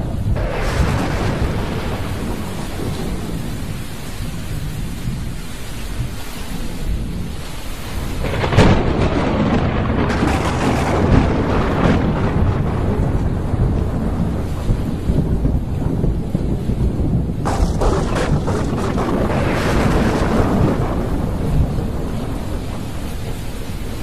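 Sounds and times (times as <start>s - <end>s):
loud thunderclap: 0.0s - 7.4s, 8.1s - 24.0s
rolling thunder: 0.0s - 24.0s
steady rain: 0.0s - 24.0s.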